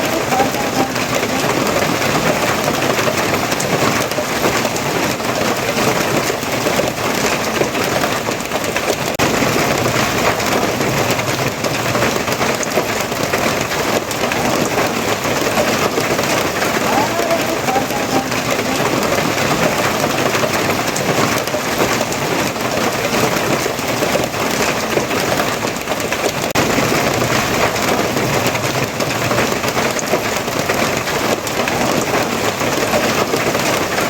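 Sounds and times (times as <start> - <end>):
steady rain pattering: 0.0 - 34.0.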